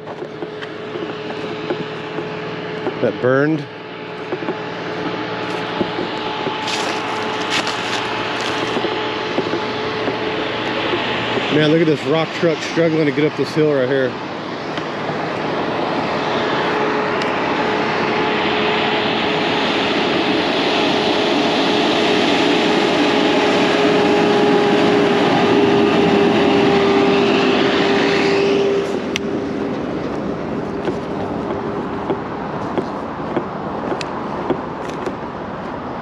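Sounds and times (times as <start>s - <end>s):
truck diesel engine labouring: 0.0s - 36.0s.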